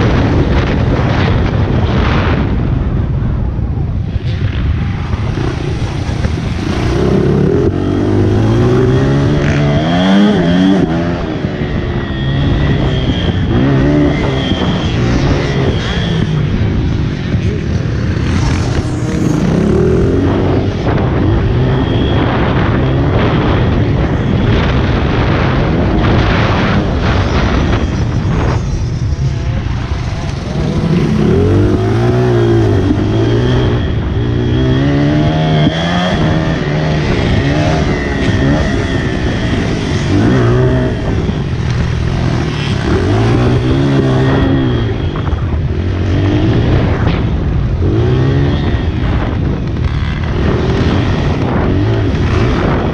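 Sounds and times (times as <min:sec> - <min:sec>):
motorbike engine revving: 0:04.3 - 0:52.9.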